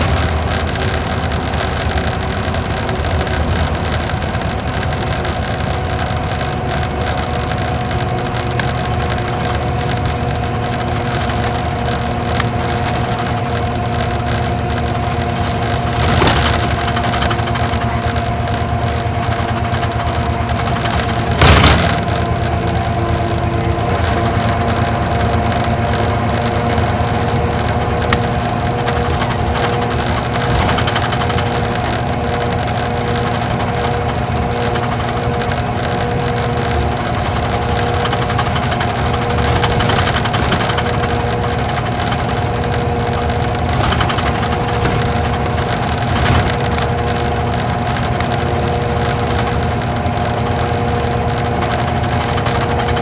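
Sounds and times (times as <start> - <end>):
coach diesel engine running: 0.0 - 53.0
constant whine: 0.0 - 53.0.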